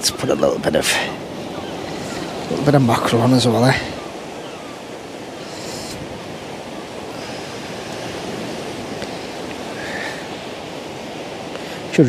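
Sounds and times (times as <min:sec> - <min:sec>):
sea surf on shore: 0:00.0 - 0:12.0.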